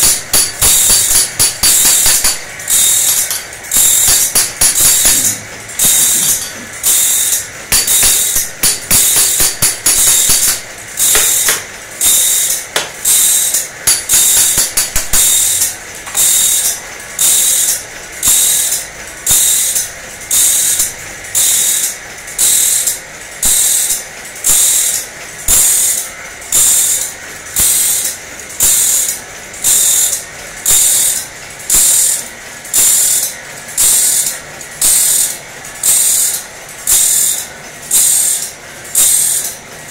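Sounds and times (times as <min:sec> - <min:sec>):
saw sharpening machine grinding: 0:00.0 - 0:39.7.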